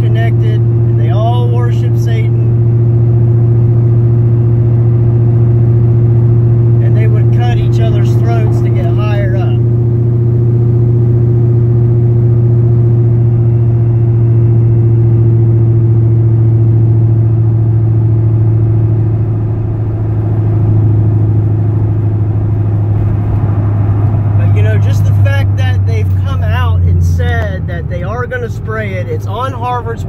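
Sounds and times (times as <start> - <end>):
car driving at highway speed: 0.0 - 30.0.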